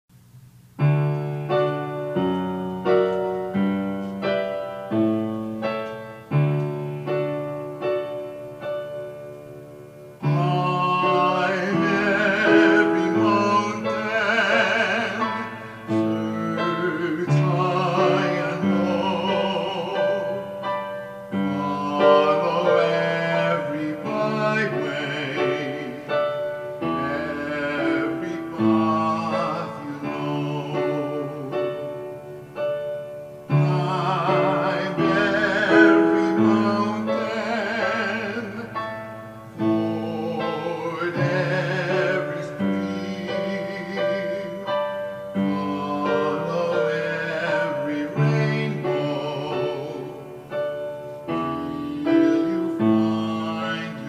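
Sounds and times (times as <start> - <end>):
piano chords: 0.1 - 54.0
man singing with vibrato: 0.8 - 54.0.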